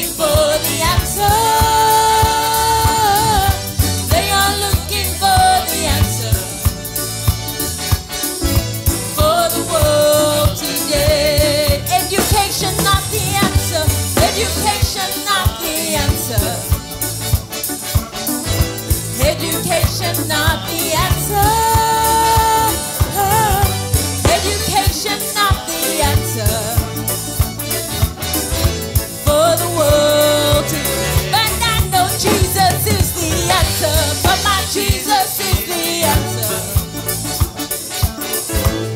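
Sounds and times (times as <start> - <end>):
gospel singing: 0.0 - 7.1, 9.1 - 38.9
band playing: 0.0 - 38.9
steady drum beat: 0.0 - 38.9.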